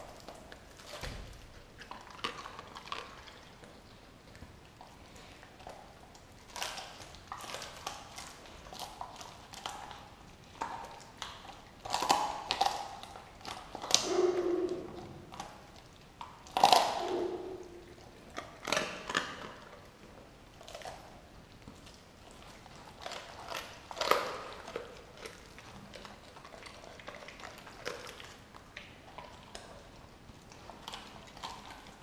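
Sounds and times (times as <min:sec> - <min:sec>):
dog crunching and tearing bones: 0:00.0 - 0:32.0.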